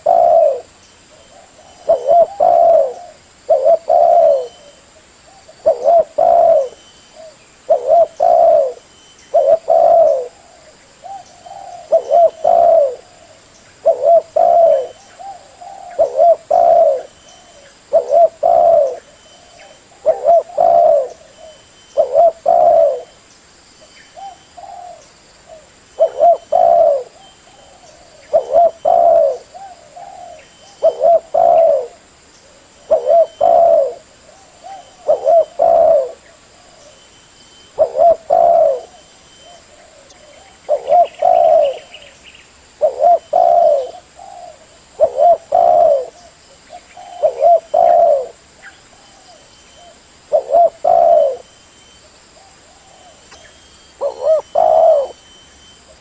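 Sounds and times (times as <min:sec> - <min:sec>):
dove cooing: 0:00.0 - 0:23.2, 0:24.2 - 0:37.0, 0:37.6 - 0:42.2, 0:42.8 - 0:51.5, 0:52.4 - 0:56.0.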